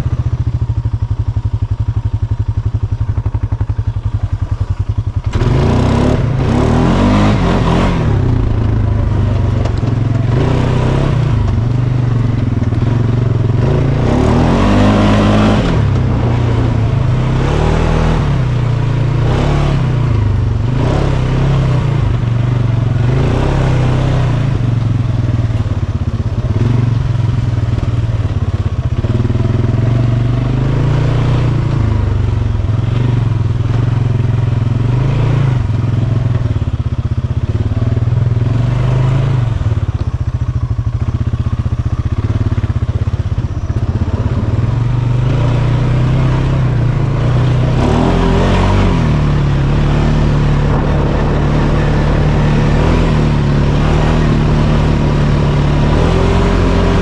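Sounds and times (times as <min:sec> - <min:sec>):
atv engine putting and revving: 0:00.0 - 0:57.0.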